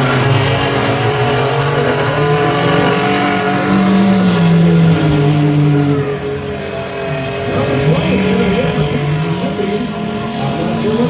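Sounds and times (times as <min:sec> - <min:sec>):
race truck engines revving: 0:00.0 - 0:11.0.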